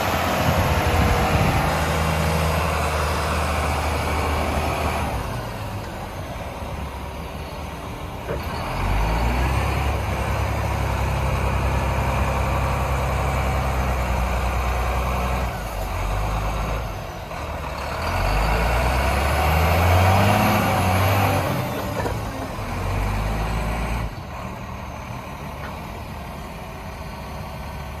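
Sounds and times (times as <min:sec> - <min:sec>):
dump truck diesel engine: 0:00.0 - 0:28.0.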